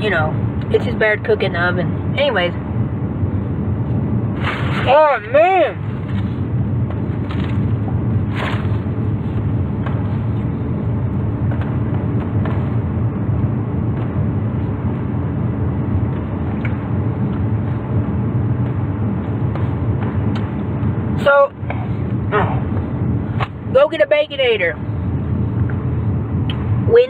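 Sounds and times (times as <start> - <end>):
low rumble in car cabin: 0.0 - 27.0.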